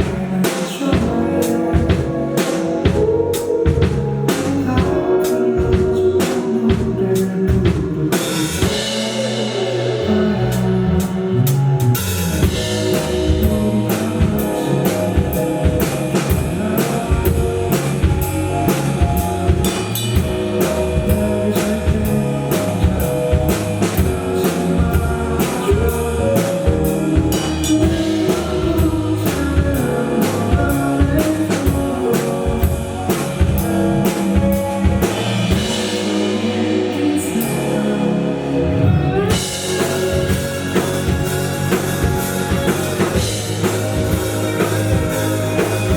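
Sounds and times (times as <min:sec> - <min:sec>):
drum kit beat: 0:00.0 - 0:38.2, 0:39.1 - 0:45.9
bass guitar: 0:00.0 - 0:45.9
electric guitar: 0:00.0 - 0:45.9
live rock band: 0:00.0 - 0:45.9.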